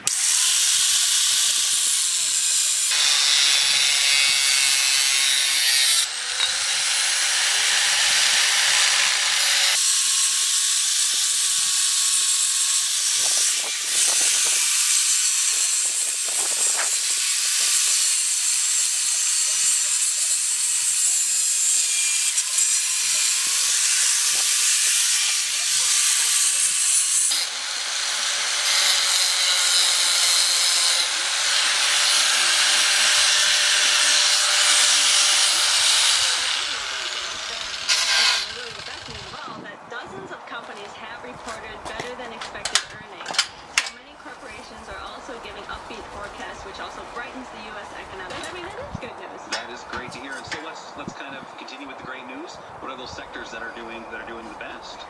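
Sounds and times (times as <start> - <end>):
power tool grinding metal: 0.0 - 51.2.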